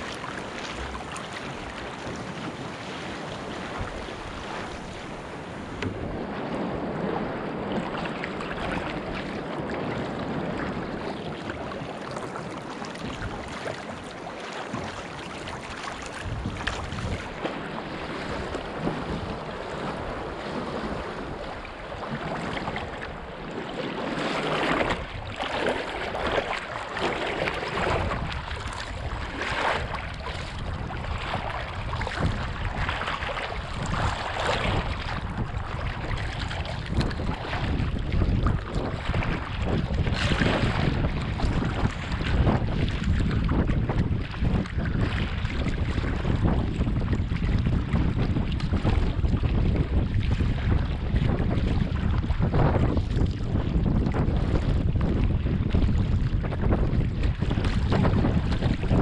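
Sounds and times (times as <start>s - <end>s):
paddle splashes: 0.0s - 59.0s
water rushing along kayak hull: 0.0s - 59.0s
wind buffeting microphone: 0.0s - 59.0s.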